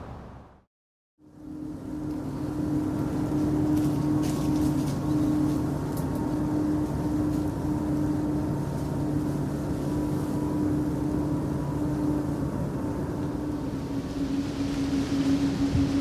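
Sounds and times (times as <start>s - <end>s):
steady low drone: 1.2s - 16.0s.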